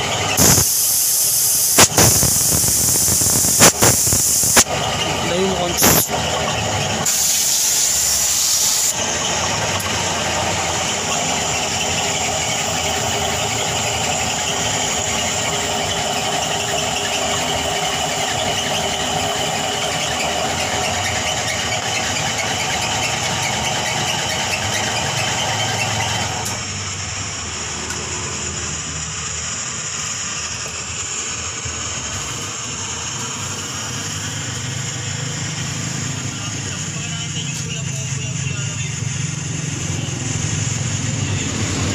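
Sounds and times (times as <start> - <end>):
gas torch hissing: 0.0 - 41.9.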